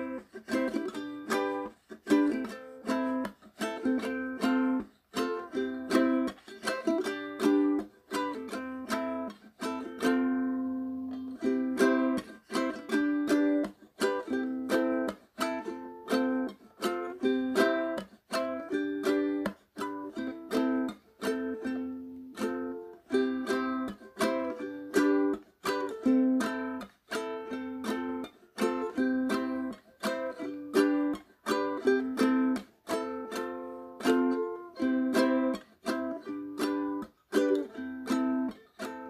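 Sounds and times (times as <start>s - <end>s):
plucked-string instrumental music: 0.0s - 39.0s.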